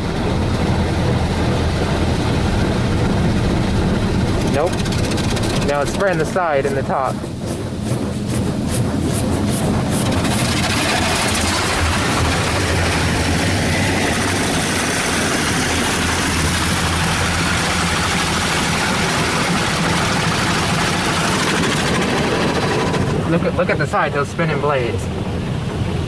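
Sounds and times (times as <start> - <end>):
low steady hum: 0.0 - 26.0
water jets spraying car: 0.0 - 26.0.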